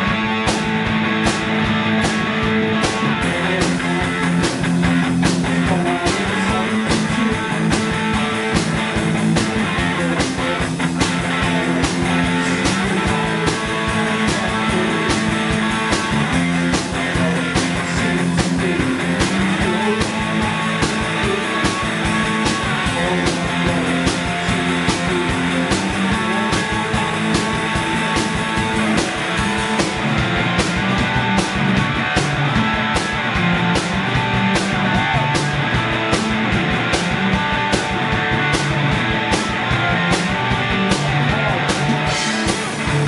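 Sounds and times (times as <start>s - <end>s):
bass guitar: 0.0s - 43.0s
cymbals keeping a beat: 0.0s - 43.0s
distorted electric guitar: 0.0s - 43.0s
drum kit: 0.0s - 43.0s.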